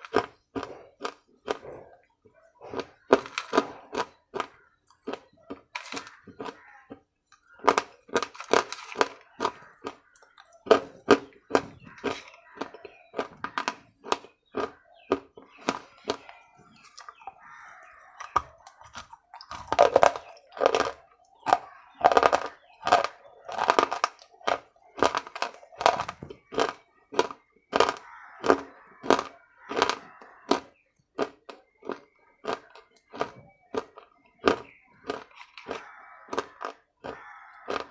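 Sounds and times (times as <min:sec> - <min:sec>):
crunching and chewing: 0:00.0 - 0:37.9.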